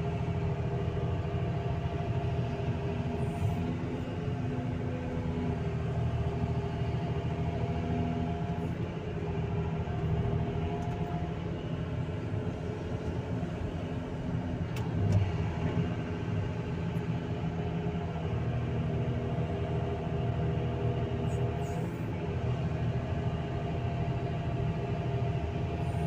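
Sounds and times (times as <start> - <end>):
excavator diesel engine droning: 0.0 - 26.0.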